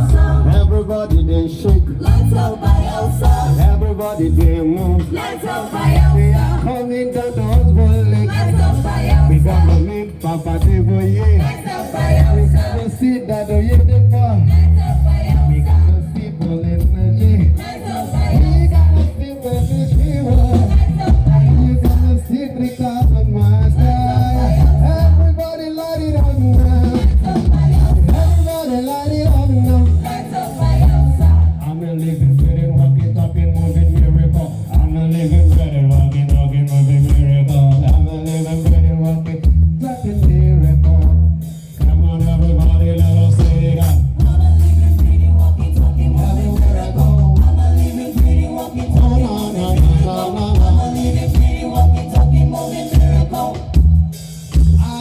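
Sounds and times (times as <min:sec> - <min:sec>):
heavy bass: 0:00.0 - 0:55.0
live gospel band: 0:00.0 - 0:55.0.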